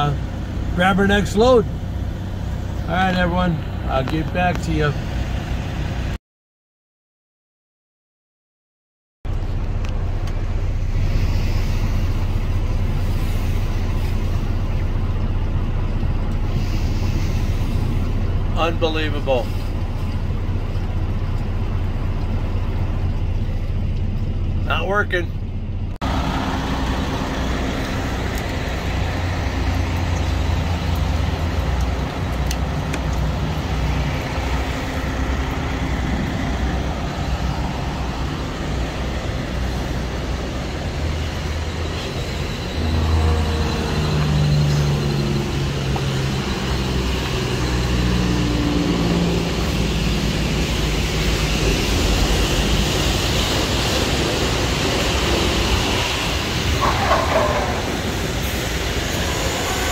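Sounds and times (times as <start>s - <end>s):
road noise: 0.0s - 6.2s, 9.3s - 59.9s
truck diesel engine drone: 0.0s - 6.2s, 9.3s - 59.9s.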